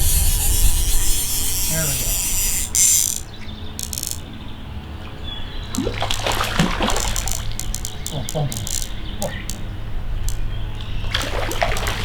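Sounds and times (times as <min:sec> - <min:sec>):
fly reel drag ratcheting: 0:00.0 - 0:04.4, 0:05.7 - 0:12.0
birds chirping: 0:00.0 - 0:12.0.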